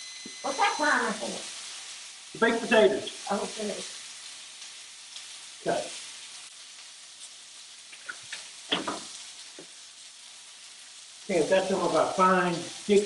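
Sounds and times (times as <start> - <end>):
steaks sizzling in a skillet: 0.0 - 13.0.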